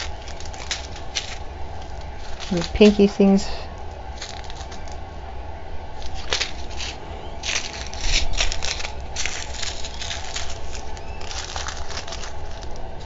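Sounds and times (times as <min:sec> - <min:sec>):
plastic bags crinkling: 0:00.0 - 0:05.0, 0:06.0 - 0:13.0.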